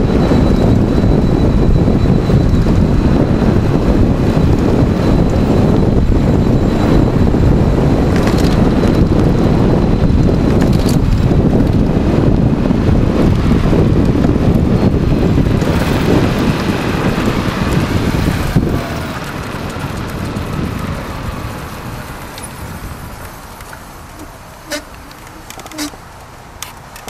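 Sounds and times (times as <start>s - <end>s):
wind buffeting microphone: 0.0s - 26.9s
bike tyre noise on road: 0.0s - 27.0s.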